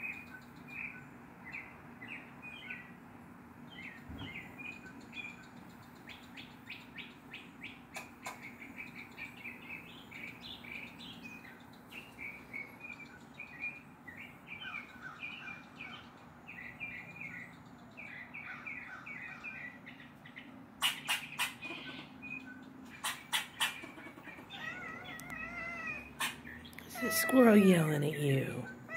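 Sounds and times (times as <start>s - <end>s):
squirrel barking chirps: 3.7s - 28.9s.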